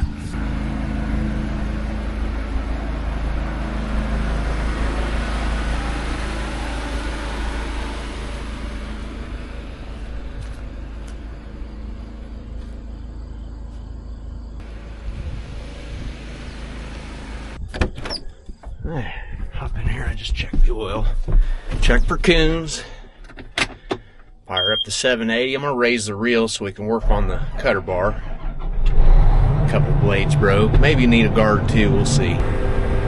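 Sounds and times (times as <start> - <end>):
vehicle engine running: 0.0 - 17.7, 18.4 - 33.0.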